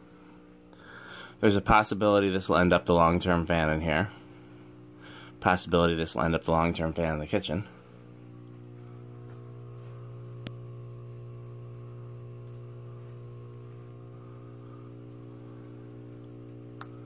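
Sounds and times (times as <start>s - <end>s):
ceiling fan motor hum: 0.0s - 17.0s.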